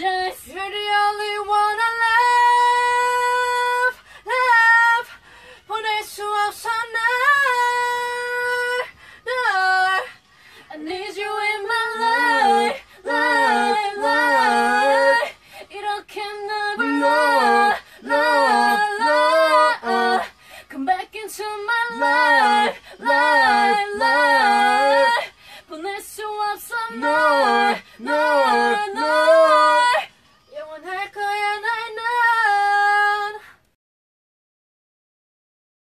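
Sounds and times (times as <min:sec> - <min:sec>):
woman singing a cappella: 0:00.0 - 0:33.7.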